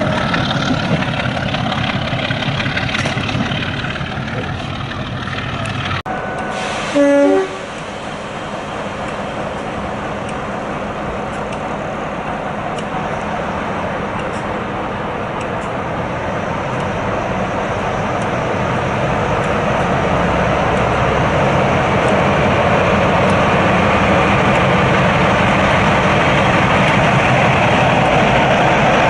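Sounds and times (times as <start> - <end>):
diesel locomotive running: 0.0 - 29.0.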